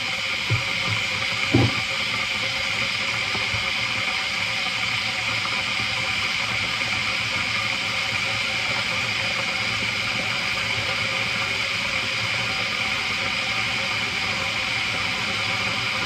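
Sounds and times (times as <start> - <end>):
electric kettle hissing: 0.0 - 16.0.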